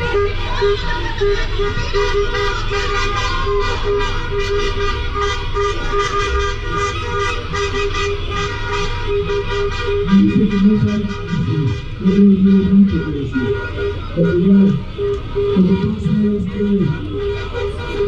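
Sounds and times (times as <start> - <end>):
car horns honking: 0.0 - 18.0
traffic rumble: 0.0 - 18.0.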